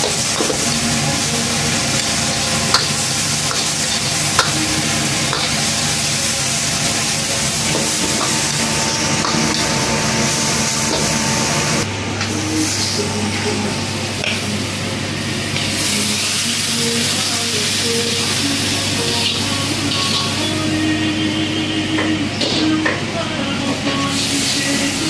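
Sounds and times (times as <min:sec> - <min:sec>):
food sizzling in a wok: 0:00.0 - 0:21.9, 0:24.1 - 0:25.0.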